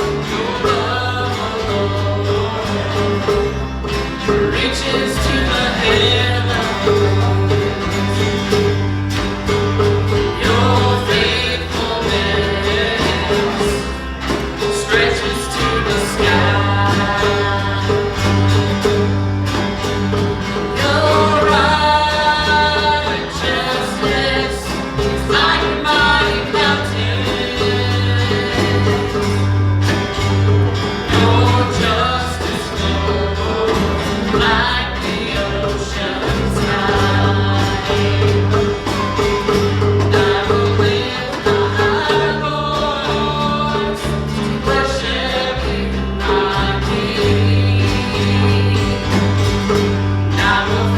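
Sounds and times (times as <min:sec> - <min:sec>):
bass line: 0:00.0 - 0:50.9
gospel band with singing: 0:00.0 - 0:50.9
guitar accompaniment: 0:00.0 - 0:50.9.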